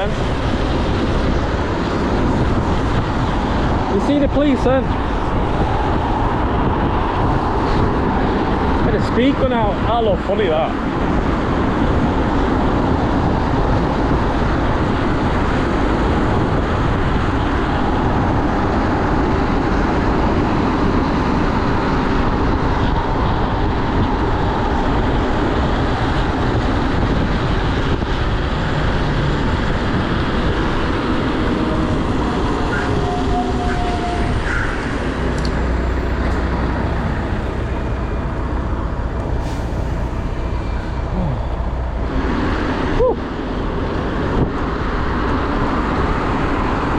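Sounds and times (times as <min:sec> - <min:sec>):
bicycle road noise: 0:00.0 - 0:46.9
traffic passing: 0:00.0 - 0:46.9.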